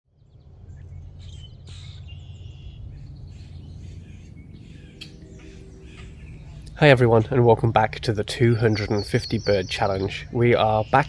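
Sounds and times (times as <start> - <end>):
low background rumble: 0.1 - 11.0
small birds singing and chirping: 0.2 - 11.0.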